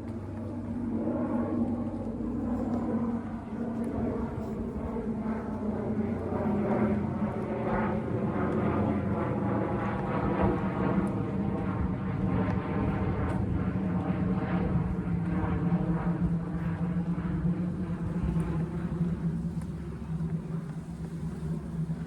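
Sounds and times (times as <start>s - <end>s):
propeller airplane droning: 0.0s - 22.0s.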